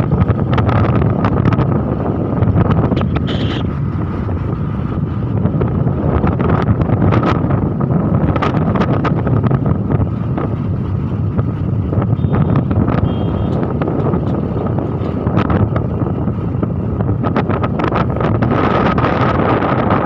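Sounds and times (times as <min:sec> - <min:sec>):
engine and road noise: 0:00.0 - 0:20.0
wind buffeting microphone: 0:00.0 - 0:20.0.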